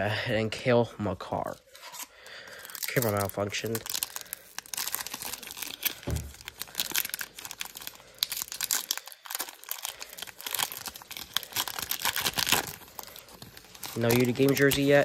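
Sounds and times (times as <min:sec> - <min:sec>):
foil wrapper crinkling: 0:01.4 - 0:15.0.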